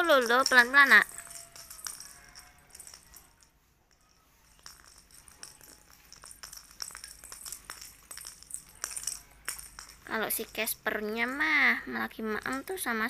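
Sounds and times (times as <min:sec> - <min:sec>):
plastic ball tapping tiled floor: 0:00.0 - 0:11.5, 0:12.2 - 0:13.0.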